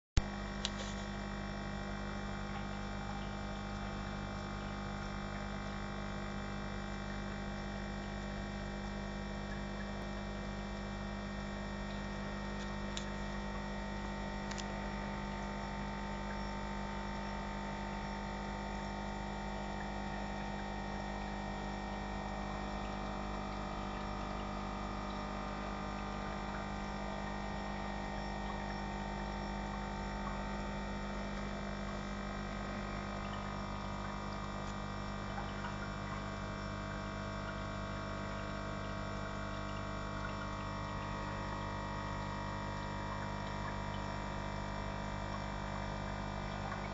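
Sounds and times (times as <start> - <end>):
aquarium pump humming: 0.2 - 46.9
water running into tank: 6.4 - 46.9.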